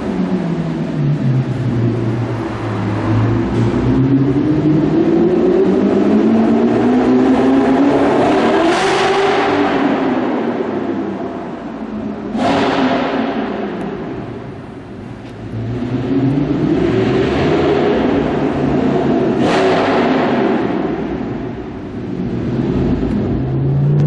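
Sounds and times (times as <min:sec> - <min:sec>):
car engine driving slowly: 0:00.0 - 0:07.8, 0:10.0 - 0:19.4, 0:20.3 - 0:24.0.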